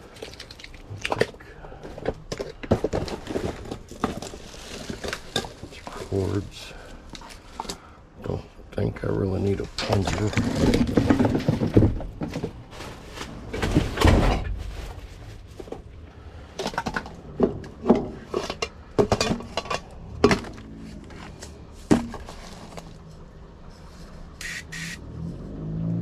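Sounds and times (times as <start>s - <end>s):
junk clattering and knocking: 0.0s - 7.8s, 9.5s - 23.3s.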